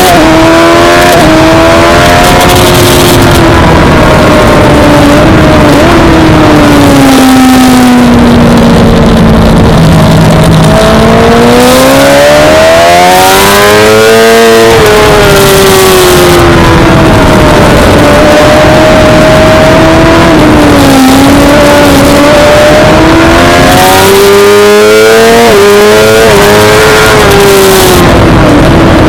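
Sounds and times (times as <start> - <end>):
sport bike engine revving: 0.0 - 29.0.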